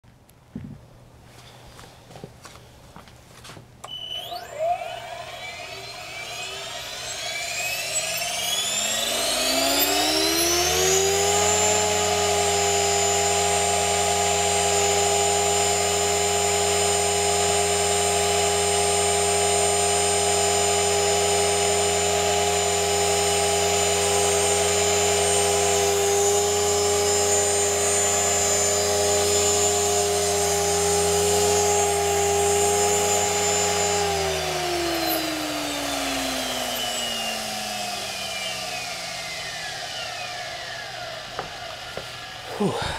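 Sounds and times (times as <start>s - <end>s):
rc helicopter motor and rotor whine: 3.8s - 42.9s.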